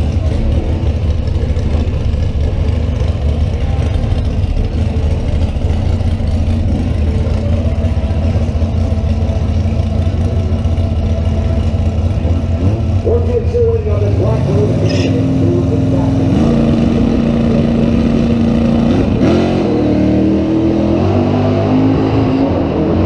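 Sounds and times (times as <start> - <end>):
car engines idling: 0.0 - 21.1.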